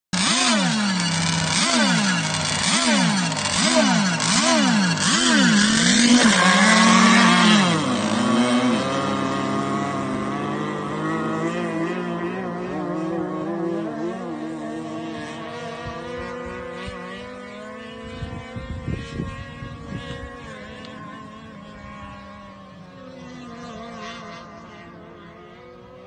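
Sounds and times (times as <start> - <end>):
model boat engines revving: 0.2 - 26.0.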